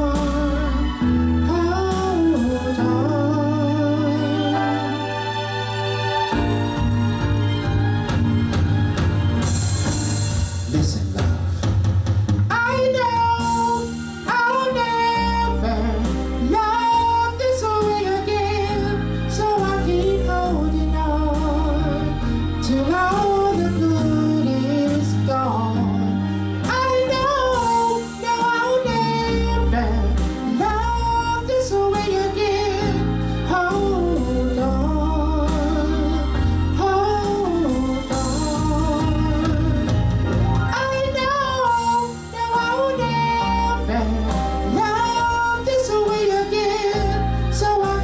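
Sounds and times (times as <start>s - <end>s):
man singing into microphone: 0.0s - 5.0s, 12.5s - 48.0s
backing music with bass line: 0.0s - 48.0s.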